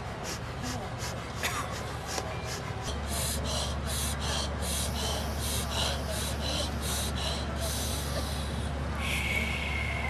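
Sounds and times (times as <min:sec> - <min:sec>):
rapid rhythmic breathing: 0:00.0 - 0:10.0
steady low hum: 0:00.0 - 0:10.0.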